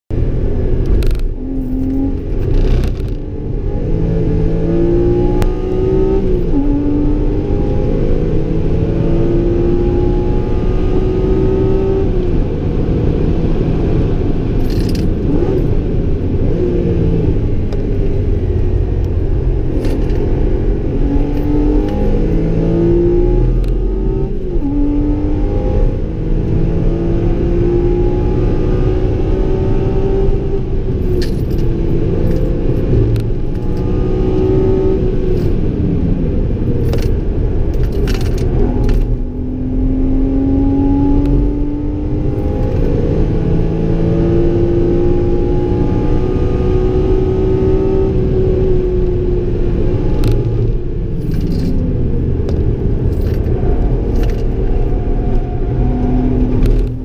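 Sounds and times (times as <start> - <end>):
tyre and road rumble: 0.1 - 8.3, 11.3 - 44.6, 47.0 - 57.0
car engine revving: 0.2 - 57.0.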